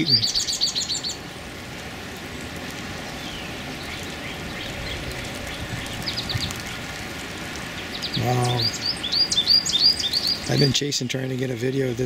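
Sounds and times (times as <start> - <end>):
outdoor background hiss: 0.0 - 12.0
songbird chirps: 0.0 - 12.0.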